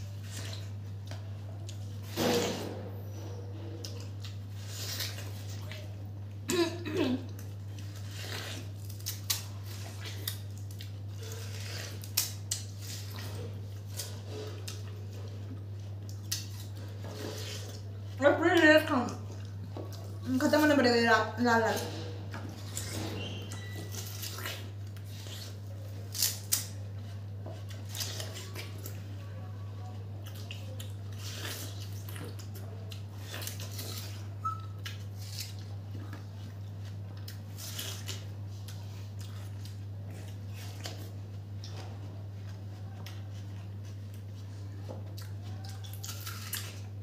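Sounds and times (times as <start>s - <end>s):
chewing watermelon crunches and slurps: 0.0s - 2.2s, 3.2s - 6.2s, 7.2s - 18.2s, 18.9s - 20.4s, 21.7s - 47.0s.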